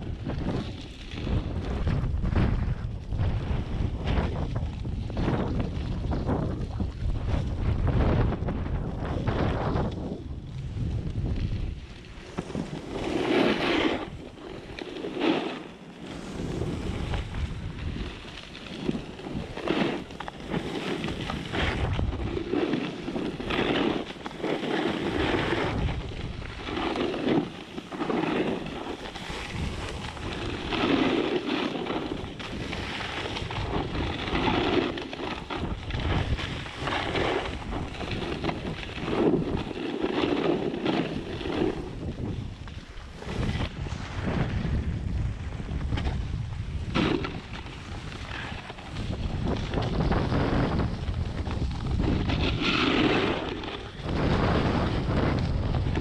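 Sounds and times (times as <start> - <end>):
wind buffeting microphone: 0.0 - 56.0
ski edges scraping on snow: 0.2 - 2.7, 3.4 - 56.0.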